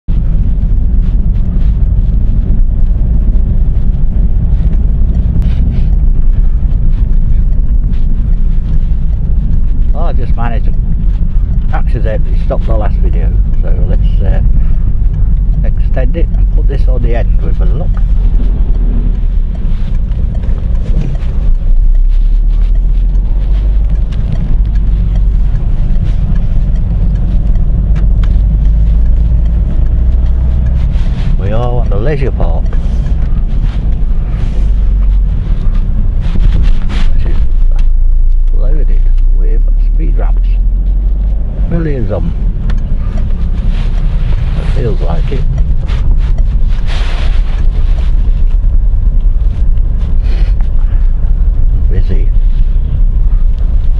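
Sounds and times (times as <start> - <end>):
engine and road rumble: 0.0 - 53.9.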